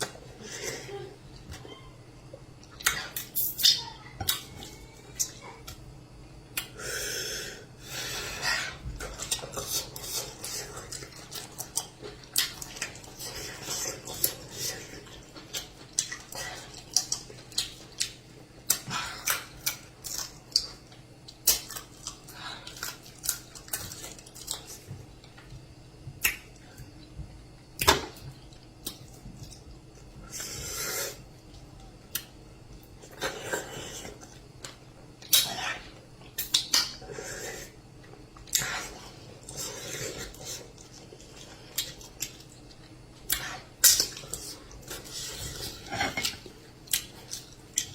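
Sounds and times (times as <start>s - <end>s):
person eating: 6.5s - 25.4s, 27.8s - 47.9s.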